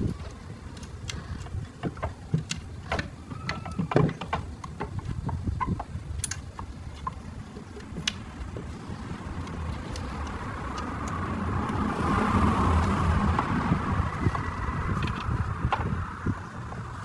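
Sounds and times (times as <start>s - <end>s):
small tools clicking and tapping: 0.0s - 11.8s, 13.3s - 16.9s.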